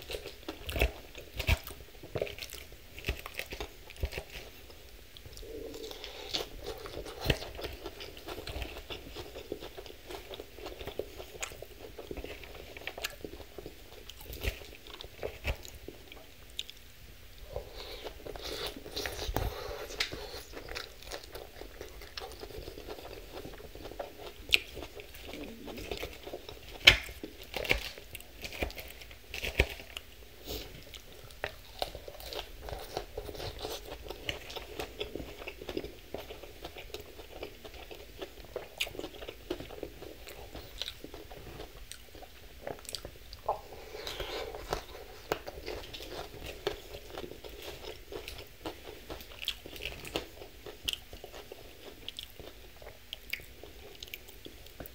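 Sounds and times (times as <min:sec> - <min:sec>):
chewing and crunching salad: 0:00.0 - 0:54.9.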